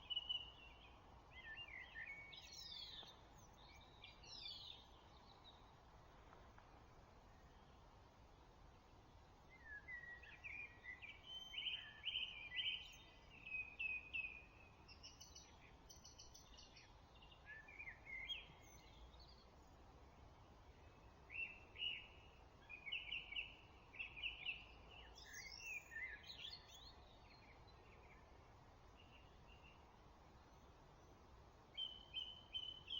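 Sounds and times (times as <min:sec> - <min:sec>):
songbirds singing: 0:00.0 - 0:32.9
steady low hiss: 0:00.0 - 0:32.9.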